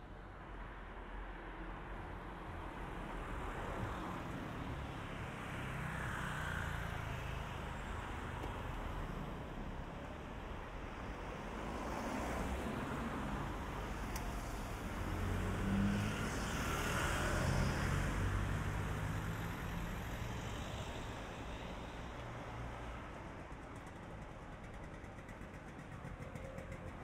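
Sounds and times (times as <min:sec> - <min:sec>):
vehicle passing on street: 0:03.1 - 0:27.0.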